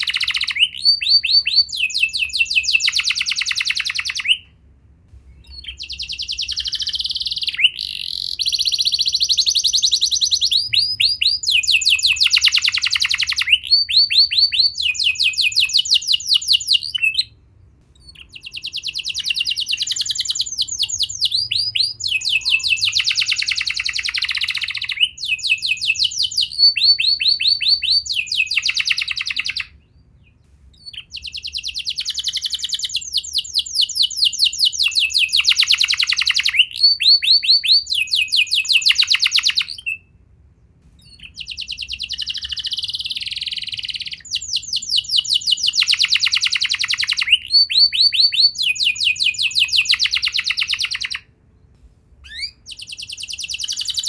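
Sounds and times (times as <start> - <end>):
canary singing trills: 0.0 - 4.6, 5.2 - 40.2, 40.9 - 51.3, 52.2 - 54.0.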